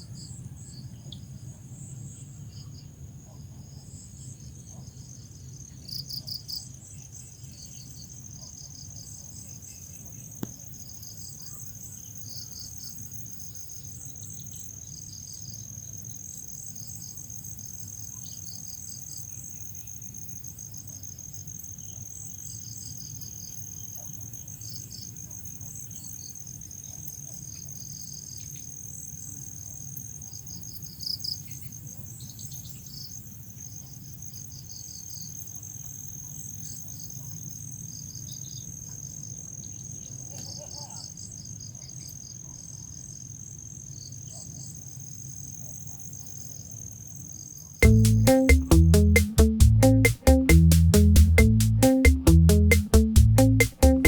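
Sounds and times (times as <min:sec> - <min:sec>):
crickets chirping: 0:00.2 - 0:44.2.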